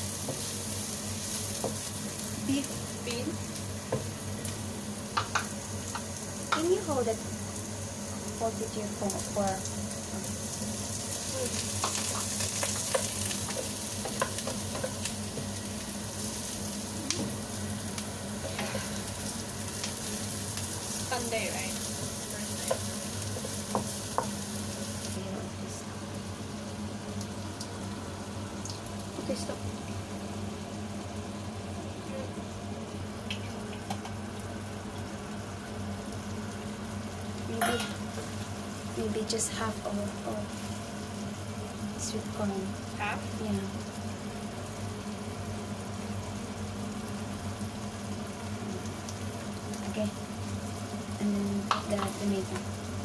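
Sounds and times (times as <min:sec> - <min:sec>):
meat and onion sizzling in a wok: 0:00.0 - 0:53.0.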